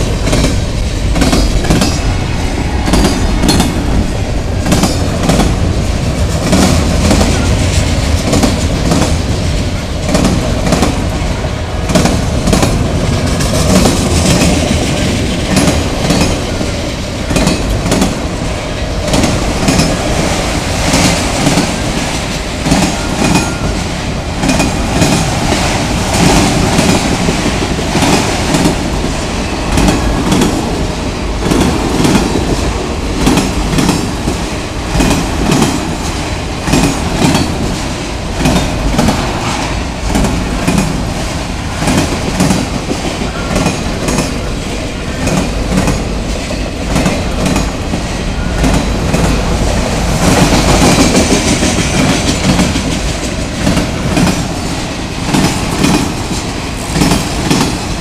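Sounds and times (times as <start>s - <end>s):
freight train wheels clattering: 0.0s - 58.0s.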